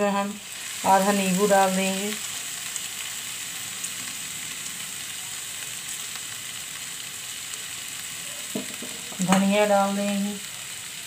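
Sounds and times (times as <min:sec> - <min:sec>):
filling sizzling in oil: 0:00.0 - 0:11.0.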